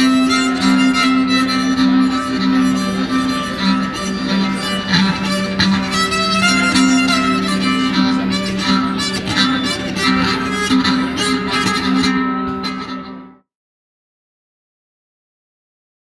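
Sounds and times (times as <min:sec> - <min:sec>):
bowed keyed fiddle melody: 0:00.0 - 0:13.4.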